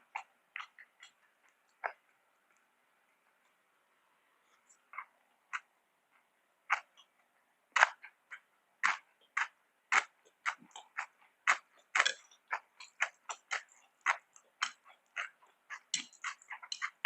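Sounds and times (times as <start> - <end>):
wet chewing and mouth smacks: 0.0 - 2.7, 4.6 - 17.0.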